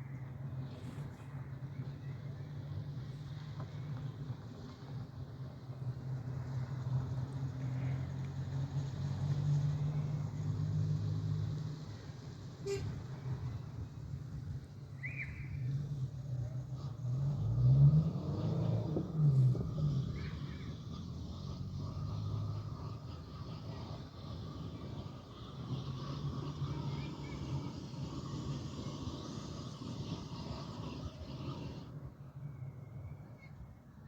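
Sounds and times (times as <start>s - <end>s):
engine running: 0.2s - 32.0s.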